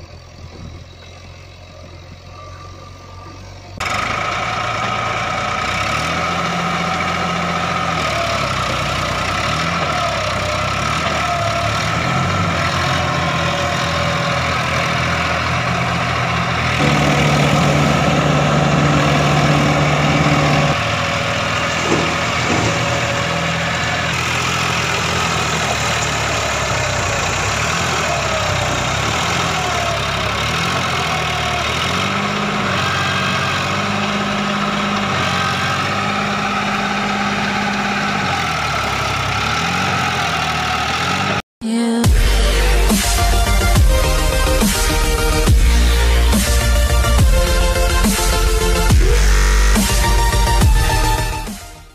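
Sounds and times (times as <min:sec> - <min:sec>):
truck engine idling: 0:00.0 - 0:41.4, 0:42.1 - 0:51.9.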